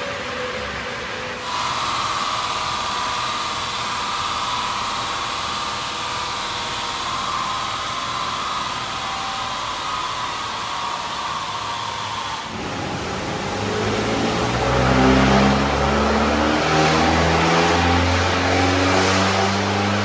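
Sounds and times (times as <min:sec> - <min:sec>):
high whine: 0:00.0 - 0:20.0.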